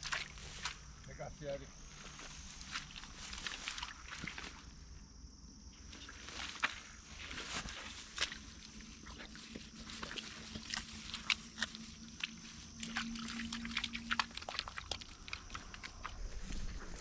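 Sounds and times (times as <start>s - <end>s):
feet and dog pushing through grass: 0.0s - 1.0s, 1.8s - 4.8s, 5.9s - 17.0s
faint low hum: 0.0s - 17.0s.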